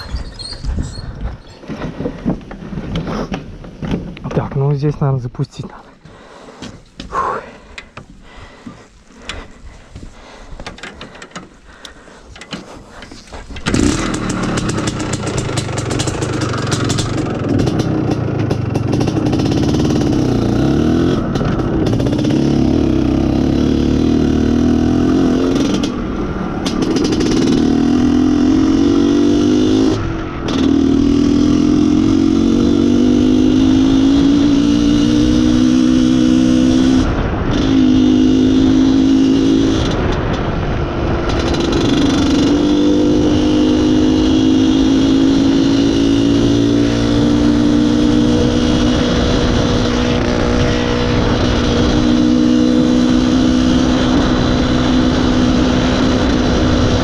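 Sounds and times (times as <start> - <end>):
two-stroke motorcycle engine accelerating: 10.8 - 57.0.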